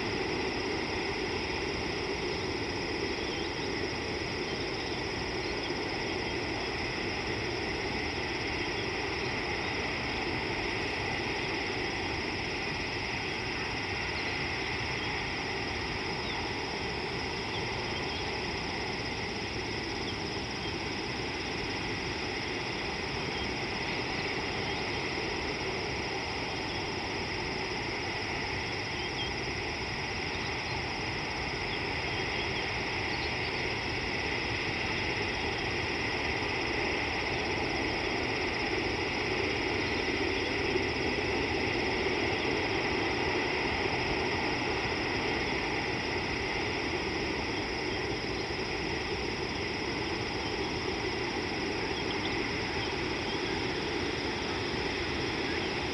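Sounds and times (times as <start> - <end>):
constant hiss and drone: 0.0 - 55.9.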